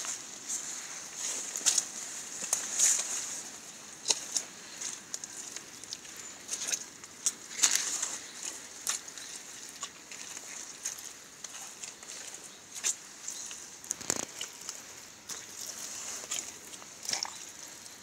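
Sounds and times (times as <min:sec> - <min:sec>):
rubber boots squelching in mud: 0:00.0 - 0:18.0.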